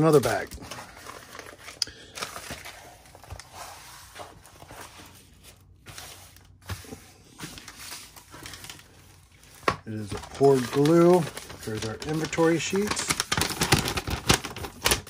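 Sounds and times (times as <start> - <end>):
paper rustling: 0.0 - 15.0.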